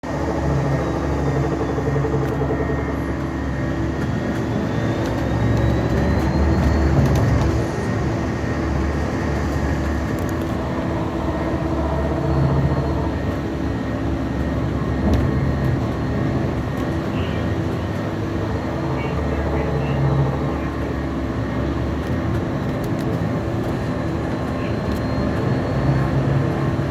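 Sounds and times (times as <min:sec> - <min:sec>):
bus drivetrain rumble: 0:00.0 - 0:26.9.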